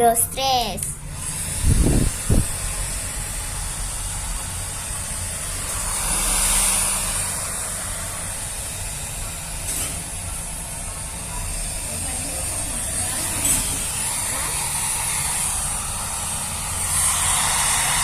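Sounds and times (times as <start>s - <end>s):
hair dryer running: 1.2s - 18.0s.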